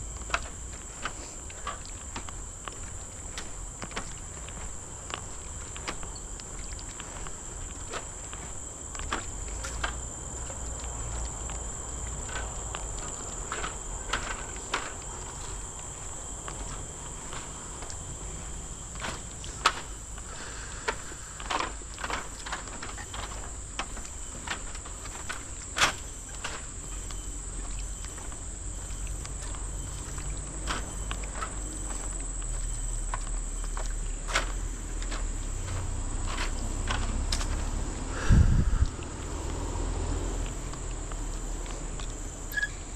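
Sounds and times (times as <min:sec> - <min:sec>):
footsteps: 0:00.0 - 0:42.9
high-pitched insect chorus: 0:00.0 - 0:42.9.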